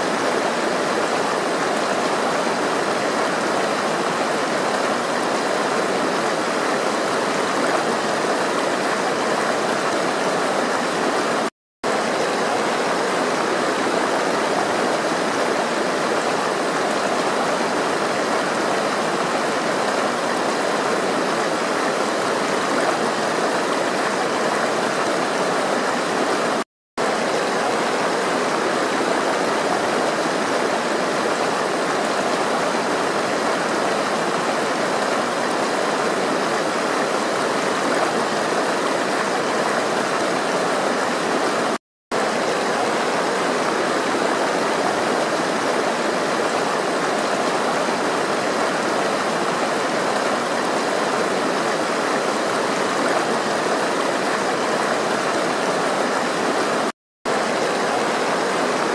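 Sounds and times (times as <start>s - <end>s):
flowing water rushing: 0.0s - 58.9s.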